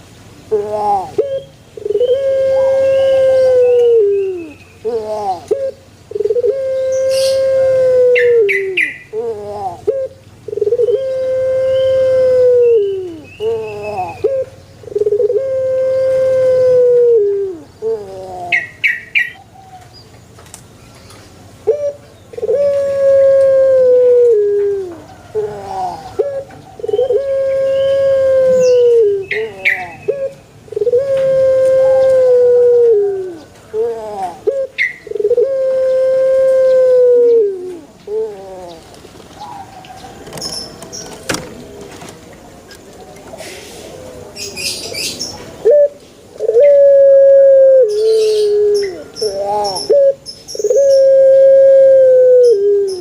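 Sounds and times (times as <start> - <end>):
dove cooing: 0.5 - 19.8, 21.6 - 42.1, 43.3 - 53.0.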